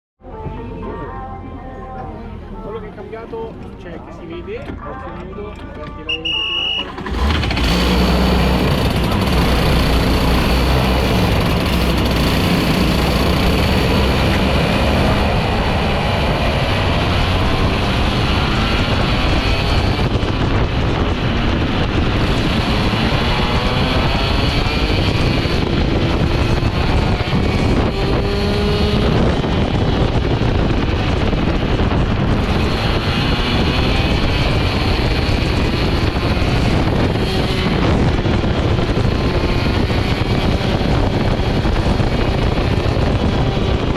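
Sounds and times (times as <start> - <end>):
wind noise on microphone: 6.0 - 43.9
kart engine revving: 6.5 - 43.9.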